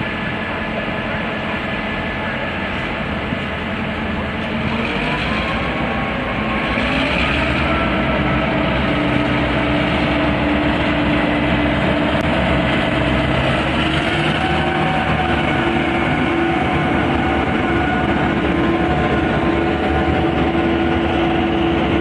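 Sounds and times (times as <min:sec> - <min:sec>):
diesel locomotive engine: 0:00.0 - 0:22.0
wheels rumbling on rails: 0:00.0 - 0:22.0.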